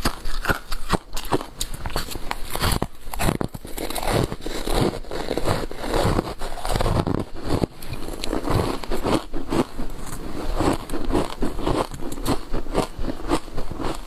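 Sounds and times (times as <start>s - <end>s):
ice being chewed: 0.0s - 14.0s.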